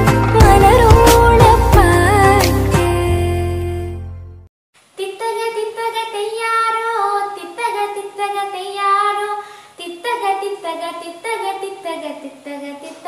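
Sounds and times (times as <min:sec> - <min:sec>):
child singing: 0:00.3 - 0:03.7, 0:05.0 - 0:13.0.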